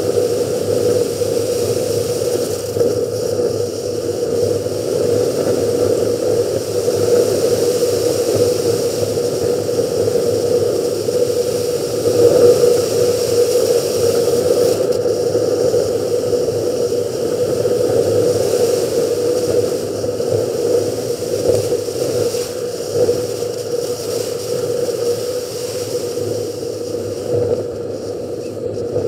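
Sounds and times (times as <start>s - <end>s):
wind noise: 0.0s - 29.0s.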